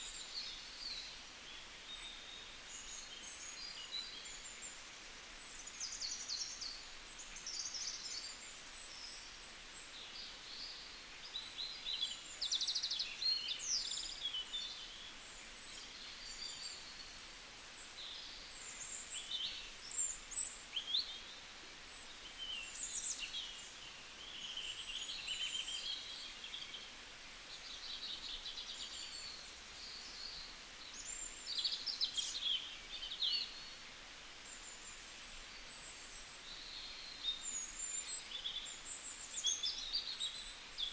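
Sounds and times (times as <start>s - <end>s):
faint outdoor hiss: 0.0s - 40.9s
songbirds chirping and trilling: 0.0s - 40.9s.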